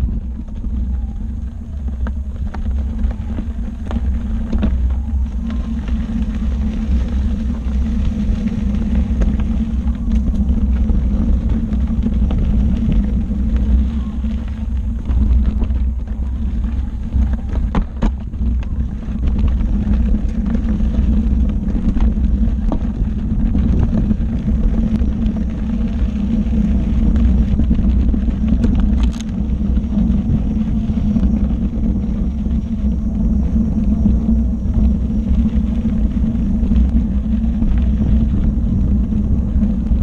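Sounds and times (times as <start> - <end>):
electric unicycle rumbling: 0.0 - 40.0.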